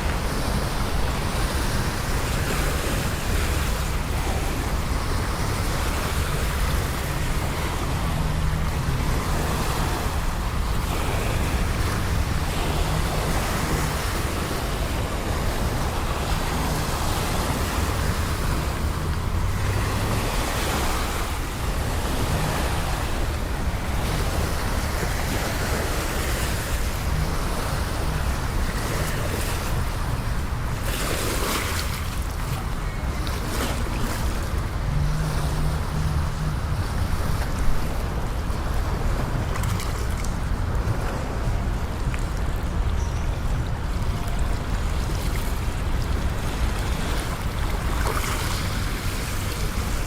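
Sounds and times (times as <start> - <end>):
city traffic rumble: 0.0 - 50.0.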